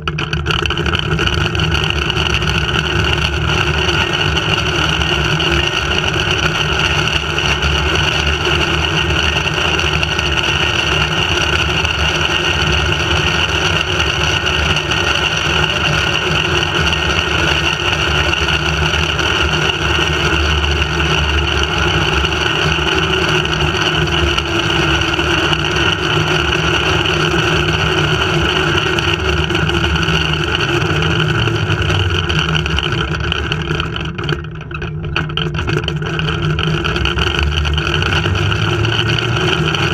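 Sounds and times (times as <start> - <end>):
zipline trolley whirring on cable: 0.0 - 39.9.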